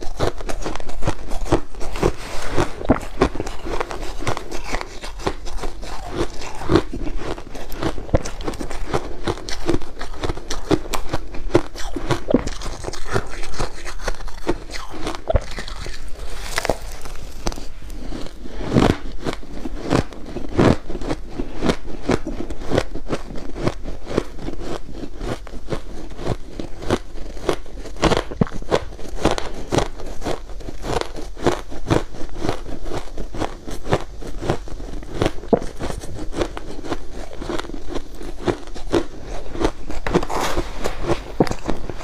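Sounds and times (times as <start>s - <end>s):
crushed ice being chewed: 0.0s - 42.0s.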